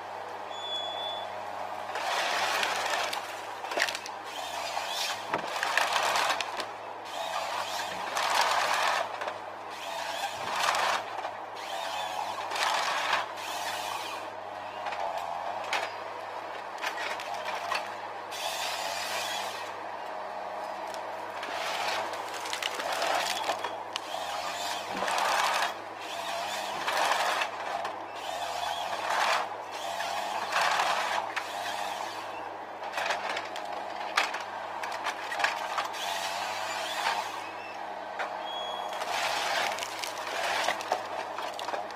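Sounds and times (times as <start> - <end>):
diesel engine running: 0.0 - 41.9
hydraulic and cutting noise: 1.5 - 41.9.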